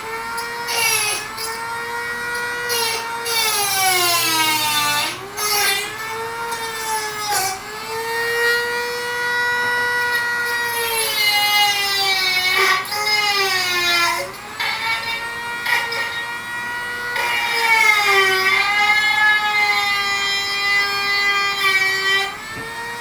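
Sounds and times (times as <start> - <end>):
rotary tool grinding metal: 0.0 - 23.0.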